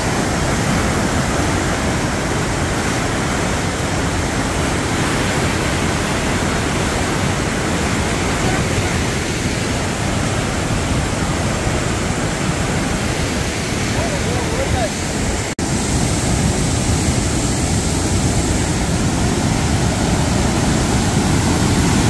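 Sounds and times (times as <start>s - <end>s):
white water rushing: 0.0s - 22.0s.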